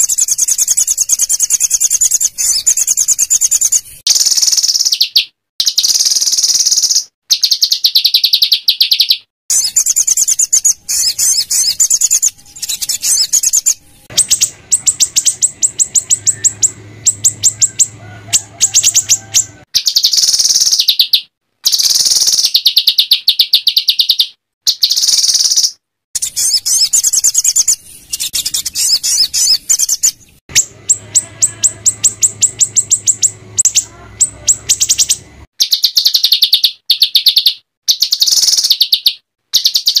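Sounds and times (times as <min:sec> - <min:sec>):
songbird rapid chattering song: 0:00.0 - 0:40.0.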